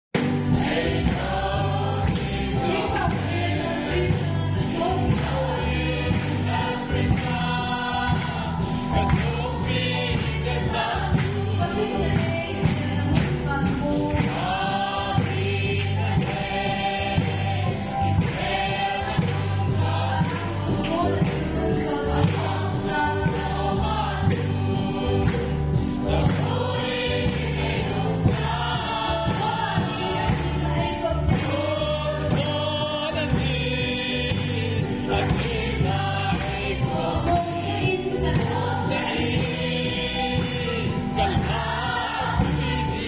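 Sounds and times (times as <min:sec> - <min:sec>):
congregation singing: 0:00.2 - 0:43.0
deep musical accompaniment: 0:00.2 - 0:43.0.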